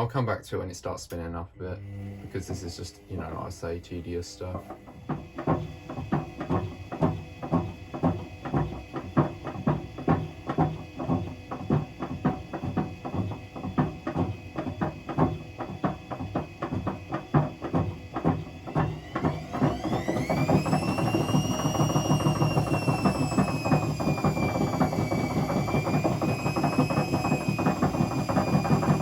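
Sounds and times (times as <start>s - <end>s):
motor whine: 1.6s - 29.0s
washing machine drum knocking: 4.4s - 29.0s.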